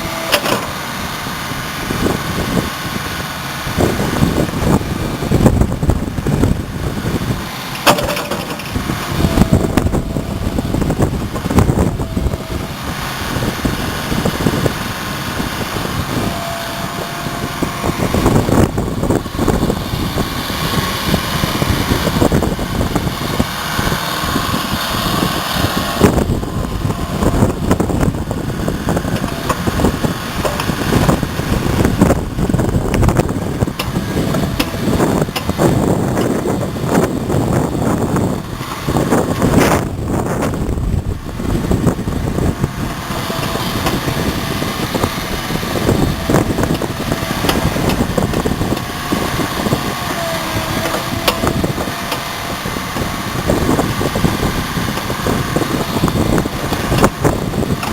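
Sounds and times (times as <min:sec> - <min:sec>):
excavator diesel engine running: 0:00.0 - 0:57.9
hydraulic whines: 0:00.0 - 0:57.9.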